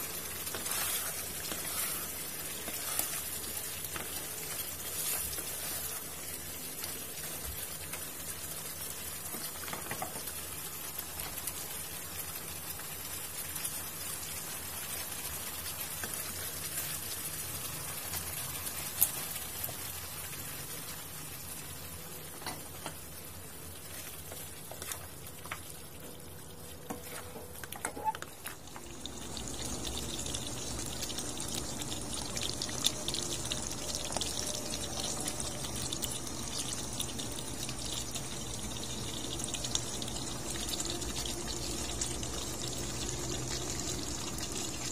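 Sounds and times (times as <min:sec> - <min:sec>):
sauce simmering and bubbling: 0:00.0 - 0:44.9.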